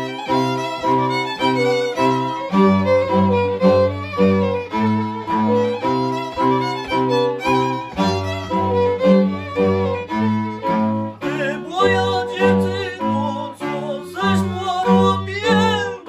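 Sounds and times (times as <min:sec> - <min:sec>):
bowed bass strokes: 0:00.0 - 0:16.0
fiddles playing dance tune: 0:00.0 - 0:16.0.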